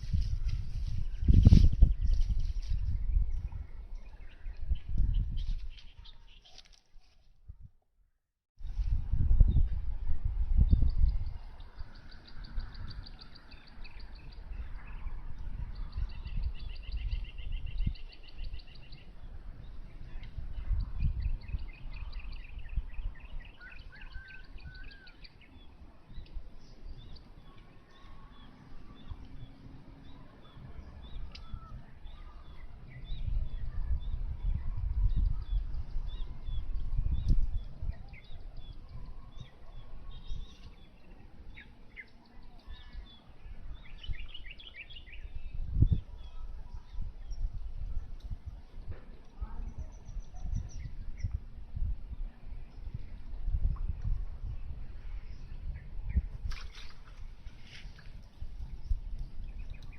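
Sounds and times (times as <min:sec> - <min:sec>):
small birds trilling and chirping: 0:00.0 - 0:06.8, 0:09.4 - 0:59.9.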